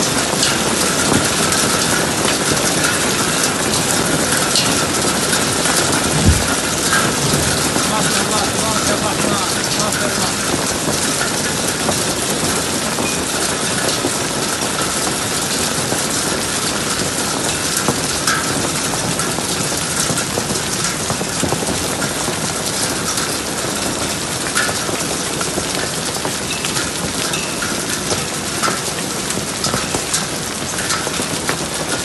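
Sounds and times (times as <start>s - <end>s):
hailstones ticking: 0.0s - 32.0s
heavy rain: 0.0s - 32.0s.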